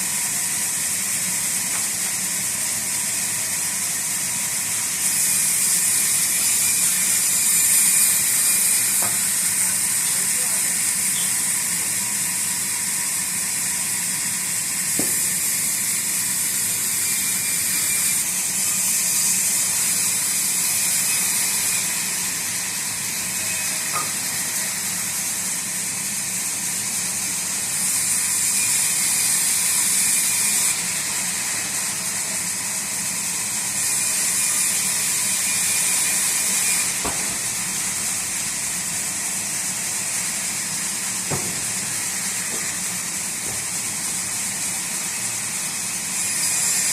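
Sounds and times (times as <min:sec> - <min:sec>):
saw hissing through wood: 0:00.0 - 0:46.9.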